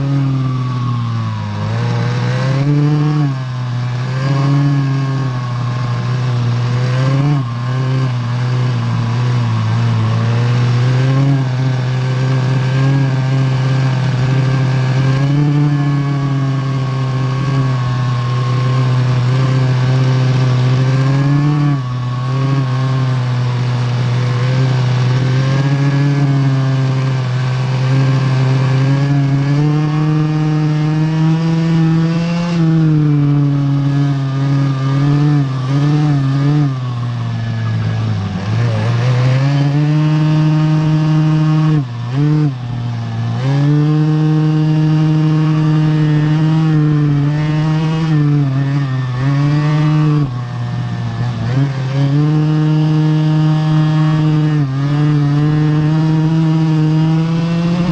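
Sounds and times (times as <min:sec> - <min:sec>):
kart engine revving: 0:00.0 - 0:57.9.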